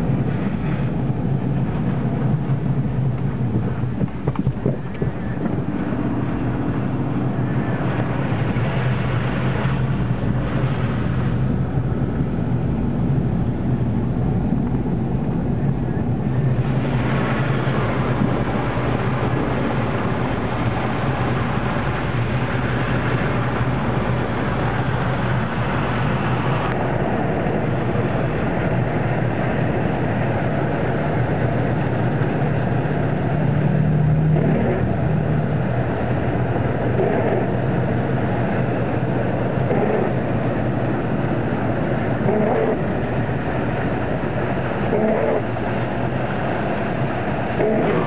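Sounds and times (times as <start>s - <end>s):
continuous wash of noise: 0.0s - 48.0s
vehicle engine running: 0.0s - 48.0s.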